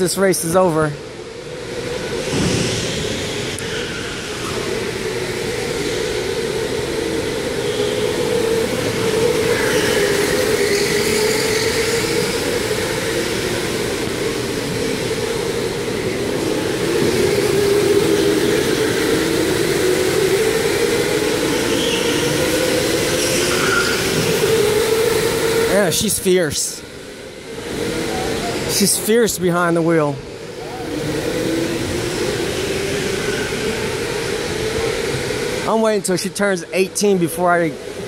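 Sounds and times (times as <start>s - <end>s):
electric go-kart motors whining: 0.3s - 38.0s.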